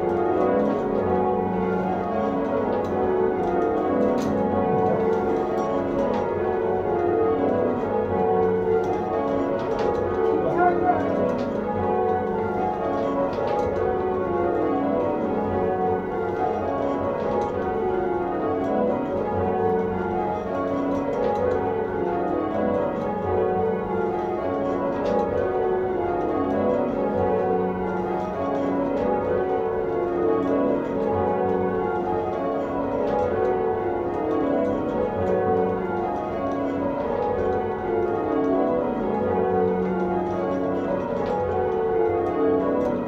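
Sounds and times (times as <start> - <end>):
church bells ringing: 0.0 - 43.0.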